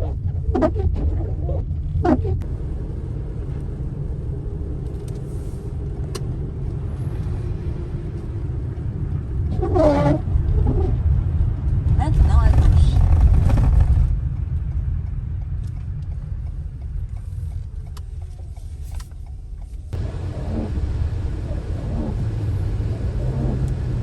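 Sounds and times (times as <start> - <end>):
car driving rumble from inside: 0.0 - 24.0.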